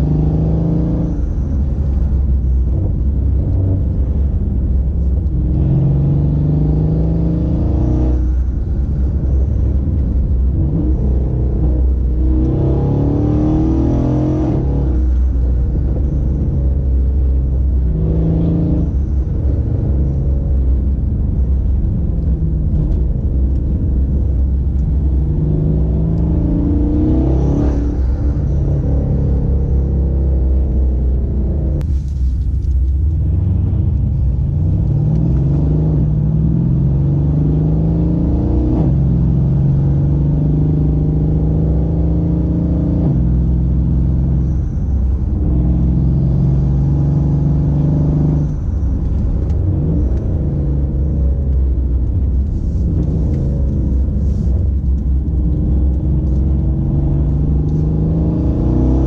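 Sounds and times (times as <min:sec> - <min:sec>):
car engine accelerating: 0:00.0 - 0:59.0
low road rumble: 0:00.0 - 0:59.0.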